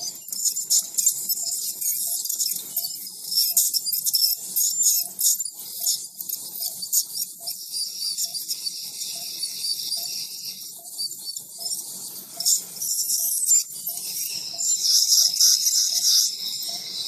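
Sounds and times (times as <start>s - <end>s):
ultrasonic dental scaler hissing: 0.0s - 17.0s.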